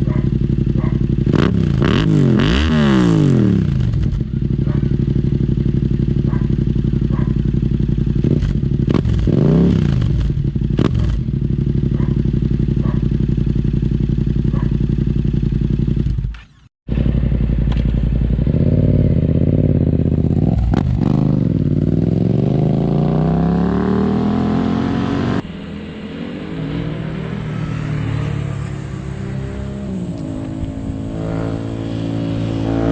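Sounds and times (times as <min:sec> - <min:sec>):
motorcycle engine idling and revving: 0:00.0 - 0:32.9.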